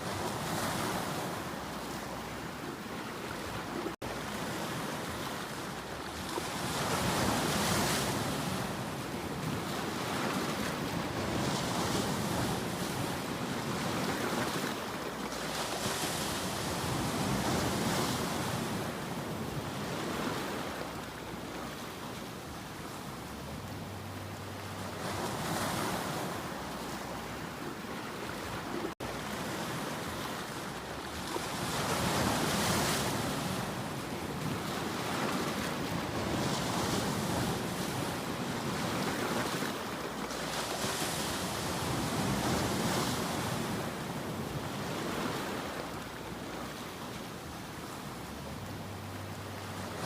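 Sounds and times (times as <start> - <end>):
ocean waves breaking on shore: 0.0 - 50.0.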